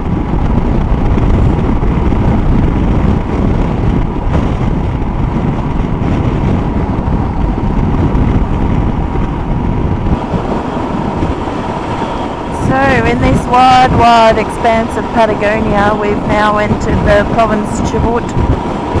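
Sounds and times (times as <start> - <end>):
motorcycle engine: 0.0 - 19.0
wind rushing on microphone: 0.0 - 19.0.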